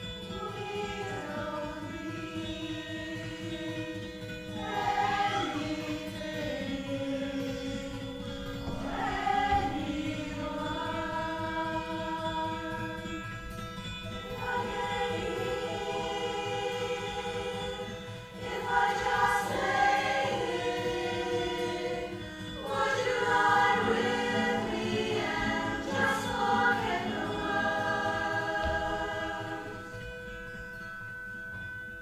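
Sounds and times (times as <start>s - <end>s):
choir singing: 0.0s - 30.4s.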